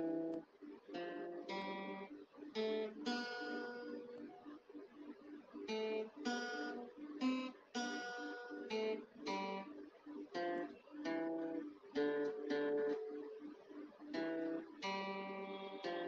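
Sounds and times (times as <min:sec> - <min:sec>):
acoustic guitar strumming chords: 0:00.0 - 0:04.3, 0:05.5 - 0:16.0.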